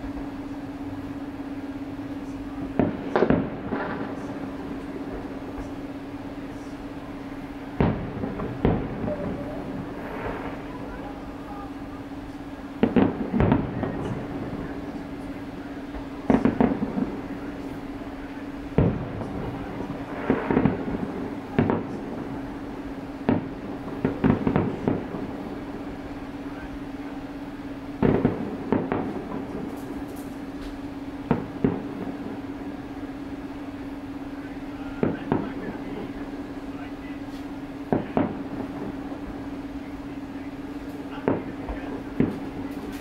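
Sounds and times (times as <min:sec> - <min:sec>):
firework shells bursting: 0:00.0 - 0:34.4, 0:35.0 - 0:43.0
steady low hum: 0:00.0 - 0:43.0.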